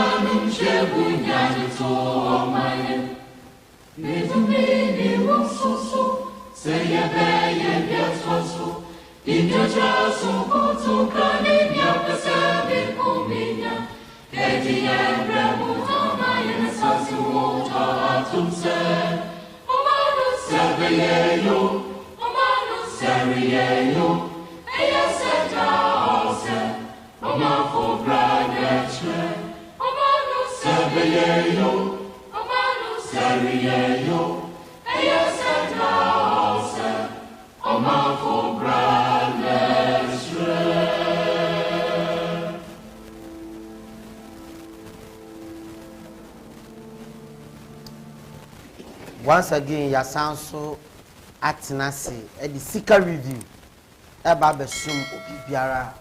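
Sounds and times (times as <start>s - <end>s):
choir singing: 0.0s - 50.4s.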